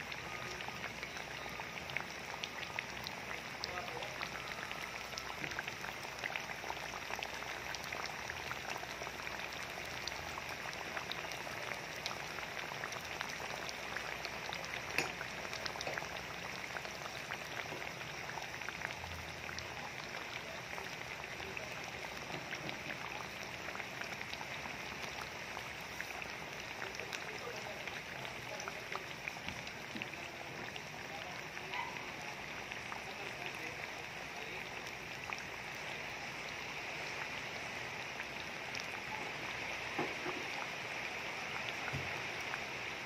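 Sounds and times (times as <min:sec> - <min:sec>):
food deep-frying in oil: 0:00.0 - 0:43.0.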